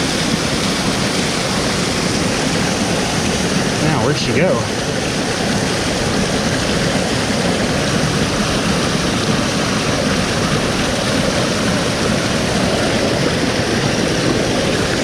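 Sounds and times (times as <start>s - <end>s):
waterfall and creek rushing: 0.0s - 15.0s.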